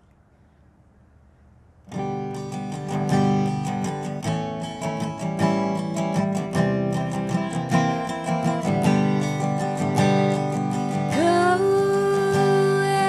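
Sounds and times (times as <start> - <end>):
resonator guitar picked notes: 1.9 - 13.0.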